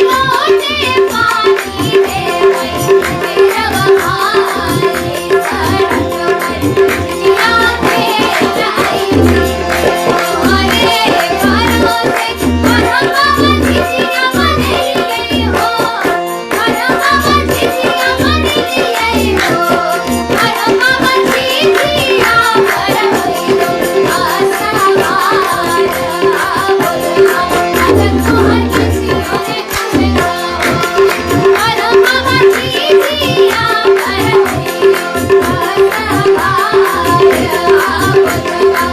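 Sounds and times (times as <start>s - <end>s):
folk singing: 0.0s - 38.9s
tabla drumming: 0.0s - 38.9s.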